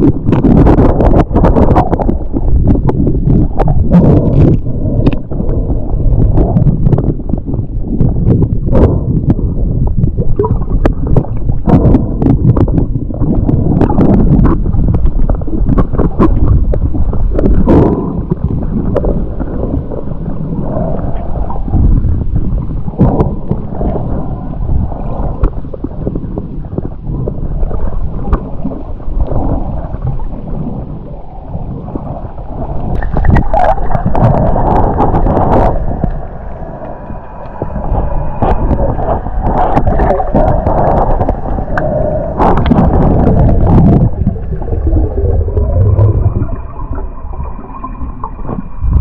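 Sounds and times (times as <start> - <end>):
small underwater clicks and knocks: 0.0 - 19.9, 25.0 - 31.1, 31.9 - 49.0
muffled underwater water movement: 0.0 - 49.0.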